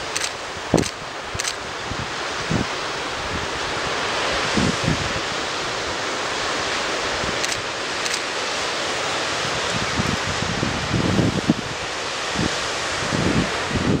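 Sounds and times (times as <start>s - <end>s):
waves washing up a beach: 0.0s - 14.0s
wind gusts on microphone: 0.0s - 14.0s.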